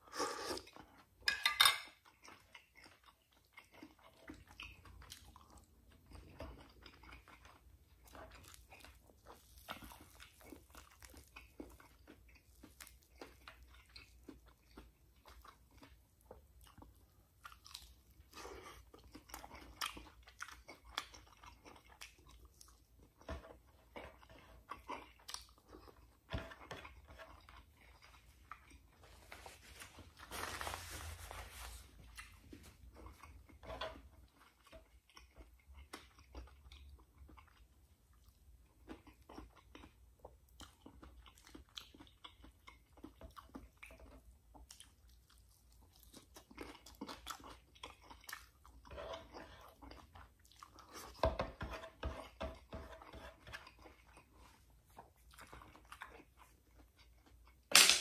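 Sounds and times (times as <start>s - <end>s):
man chewing and crunching: 0.0s - 1.3s, 1.9s - 30.2s, 31.9s - 57.7s.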